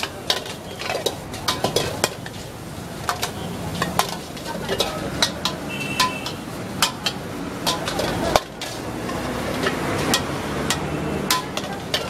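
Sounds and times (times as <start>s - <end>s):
metal ladle scraping a wok: 0.0s - 12.0s
rice frying: 0.0s - 12.0s.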